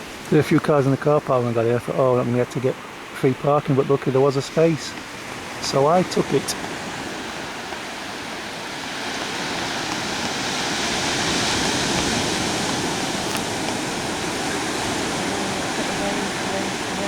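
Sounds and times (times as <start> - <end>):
sea waves breaking on sand: 0.0 - 17.0.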